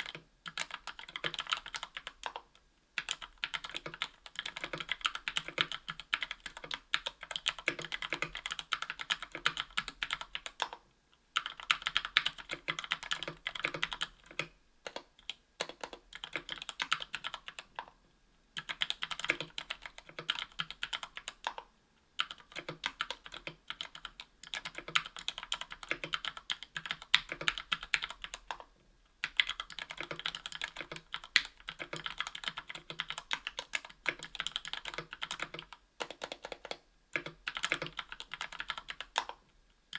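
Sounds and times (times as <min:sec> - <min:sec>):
fast mechanical keyboard typing: 0:00.0 - 0:02.4, 0:03.0 - 0:10.8, 0:11.4 - 0:17.9, 0:18.6 - 0:21.6, 0:22.2 - 0:39.4.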